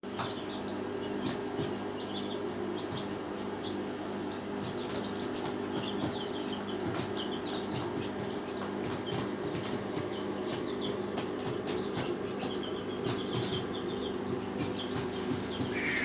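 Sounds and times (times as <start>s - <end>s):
chicks peeping: 0.1s - 16.0s
machine hum: 0.1s - 16.0s.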